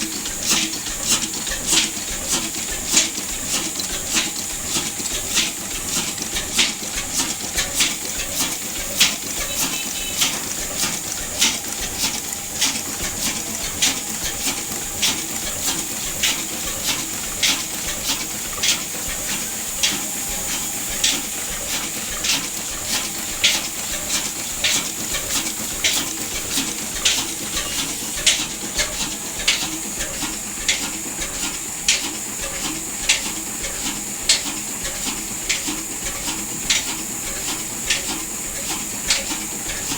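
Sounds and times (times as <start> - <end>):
diesel engine running slowly: 0.0 - 39.9.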